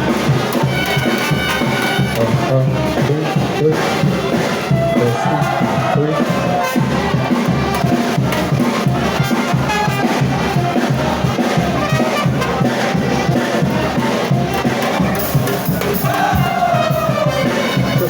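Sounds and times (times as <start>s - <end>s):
brass band music: 0.0s - 18.0s
large crowd noise: 0.0s - 18.0s
steady drum beat: 0.0s - 18.0s.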